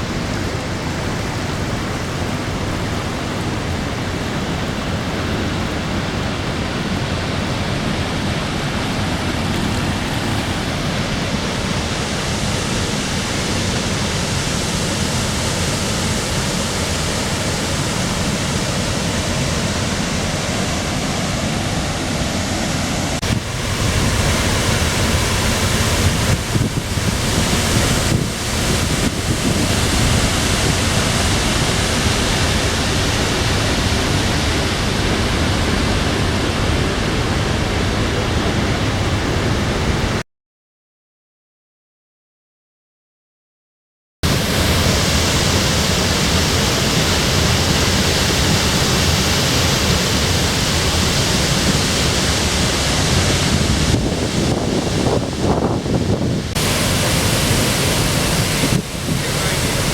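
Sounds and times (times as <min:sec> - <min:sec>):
waterfall rushing: 0:00.0 - 0:40.2, 0:44.2 - 0:59.9.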